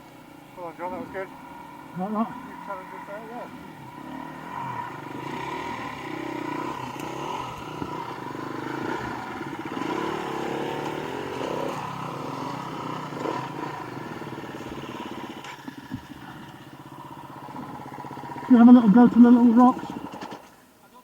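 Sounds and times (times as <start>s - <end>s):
dirt bike engine revving: 0.6s - 20.6s.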